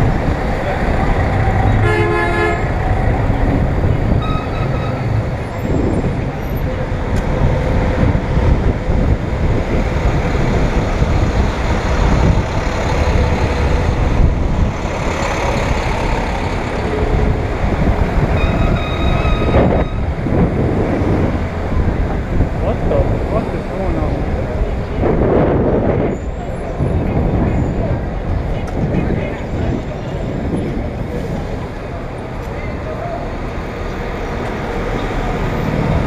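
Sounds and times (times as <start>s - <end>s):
wind rumble on microphone: 0.0s - 1.9s, 2.6s - 36.0s
bus and car engines: 0.0s - 36.0s.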